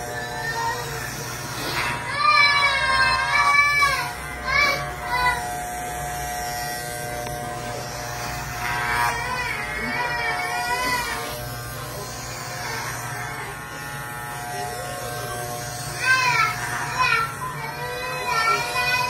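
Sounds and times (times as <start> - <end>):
steady buzz: 0.0 - 19.0.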